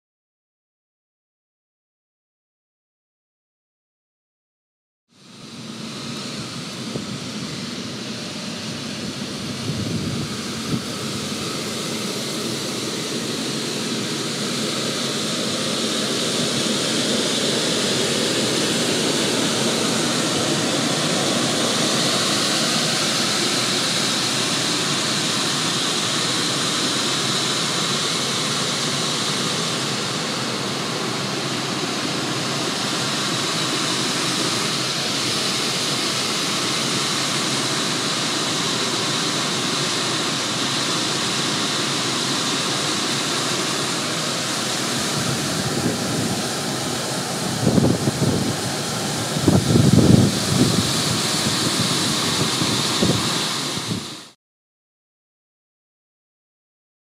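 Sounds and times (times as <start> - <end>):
faint high whine: 5.2 - 54.4
large fans rushing air: 5.2 - 54.4.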